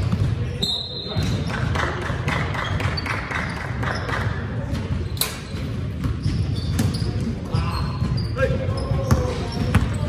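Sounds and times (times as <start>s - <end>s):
basketball bouncing on gym floor: 0.0s - 10.0s.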